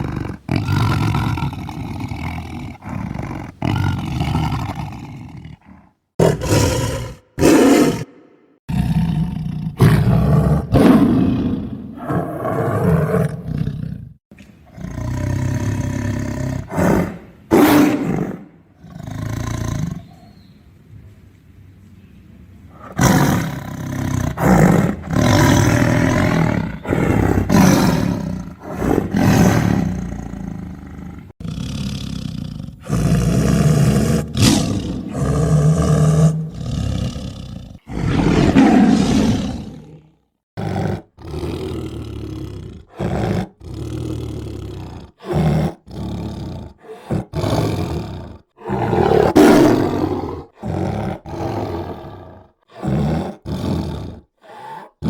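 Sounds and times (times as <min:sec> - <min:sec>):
tiger roaring and growling: 0:00.0 - 0:20.3, 0:22.7 - 0:55.0.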